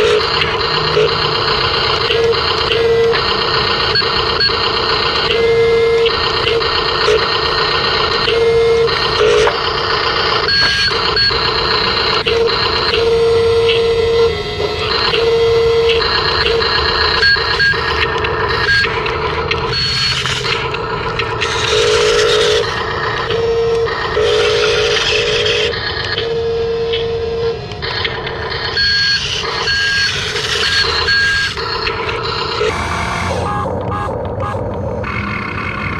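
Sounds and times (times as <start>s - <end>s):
small electric motors whirring: 0.0s - 34.0s
steady electronic beep: 0.0s - 35.8s.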